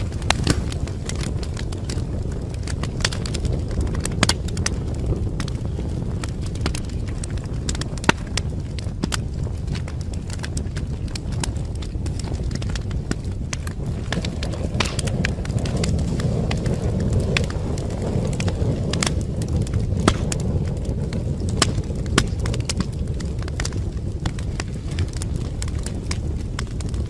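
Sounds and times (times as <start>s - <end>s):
burning wood crackling and popping: 0.0s - 27.0s
low rumble of flames: 0.0s - 27.0s.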